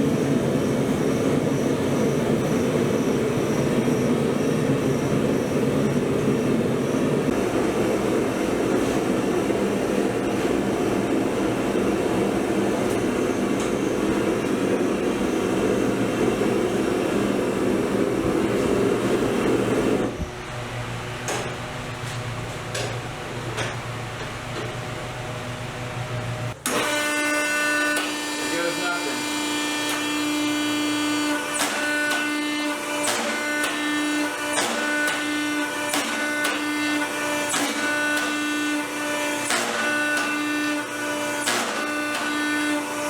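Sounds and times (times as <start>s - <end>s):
hydraulic press mechanical drone: 0.0s - 43.0s.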